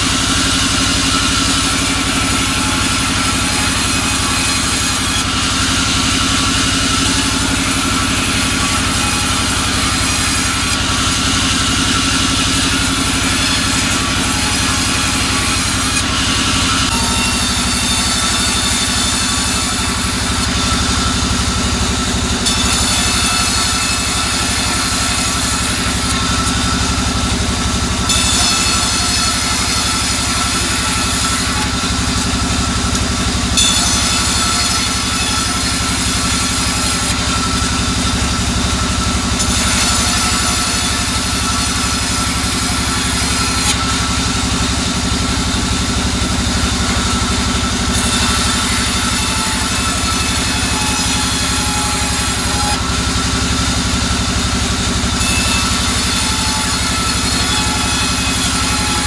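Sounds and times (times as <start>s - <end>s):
band sawmill drone: 0.0s - 59.0s.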